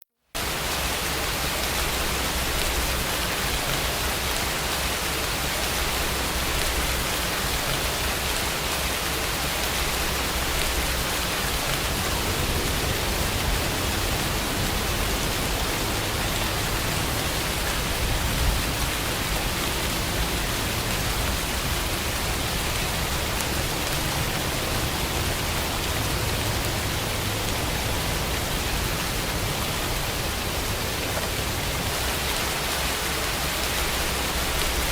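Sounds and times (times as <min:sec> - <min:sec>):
steady rain: 0:00.3 - 0:34.9.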